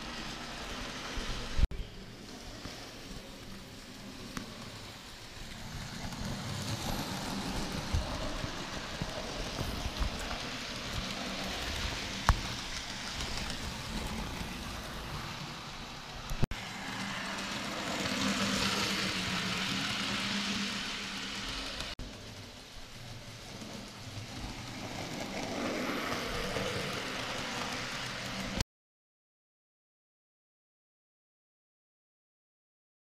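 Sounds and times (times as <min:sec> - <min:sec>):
model train rumbling on track: 0:00.0 - 0:28.6.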